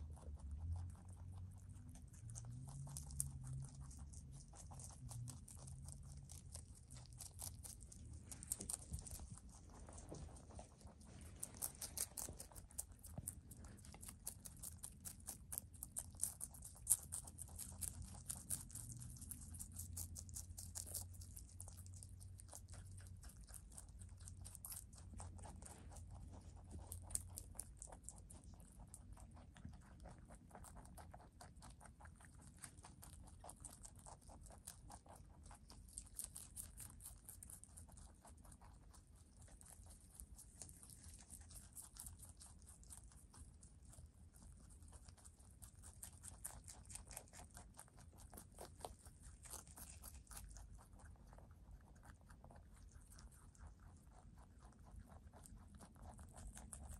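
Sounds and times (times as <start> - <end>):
rabbits chewing crisp greens: 0.0 - 56.9.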